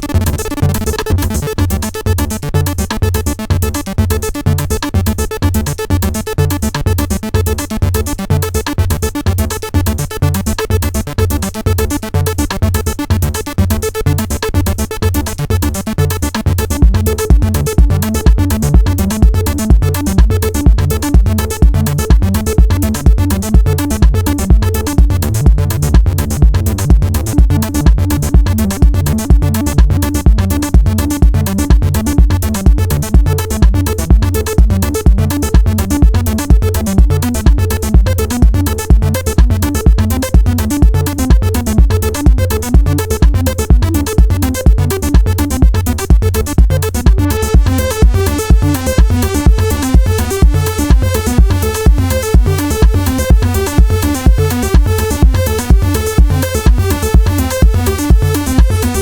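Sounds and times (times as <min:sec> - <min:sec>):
drum machine kick: 0:00.0 - 0:07.5, 0:14.3 - 0:59.0
repeating synth bass notes: 0:00.0 - 0:59.0.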